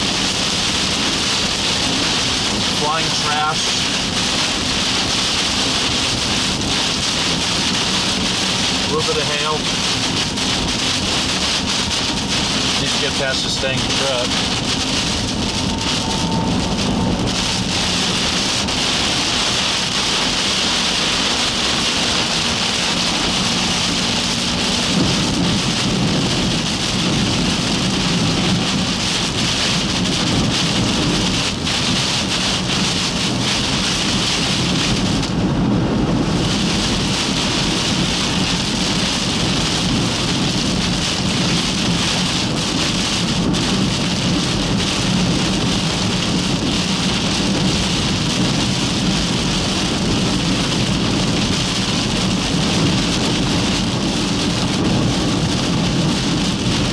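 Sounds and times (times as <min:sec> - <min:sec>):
heavy rain on car: 0:00.0 - 0:56.9
road noise: 0:00.0 - 0:56.9
wind noise: 0:00.0 - 0:56.9.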